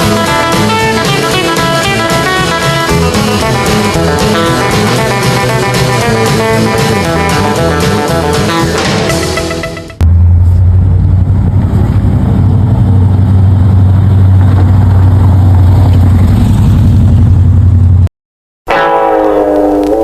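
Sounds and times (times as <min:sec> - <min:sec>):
car engine running: 0:00.0 - 0:09.2, 0:10.0 - 0:18.1.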